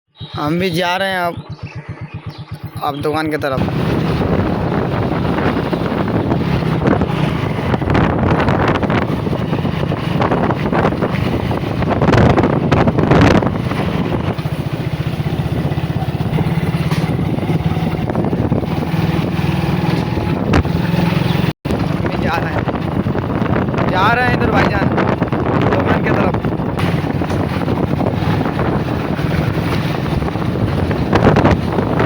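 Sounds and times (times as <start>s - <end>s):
motorcycle engine running: 0.2s - 32.0s
wind buffeting microphone: 0.3s - 32.0s.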